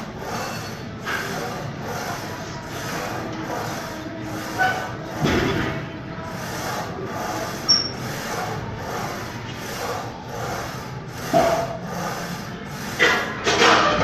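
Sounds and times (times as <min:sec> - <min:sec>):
din of equipment and people: 0:00.0 - 0:14.0.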